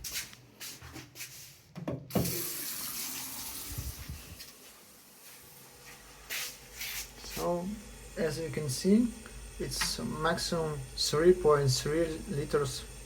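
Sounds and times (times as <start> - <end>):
water running from tap: 2.1 - 13.0.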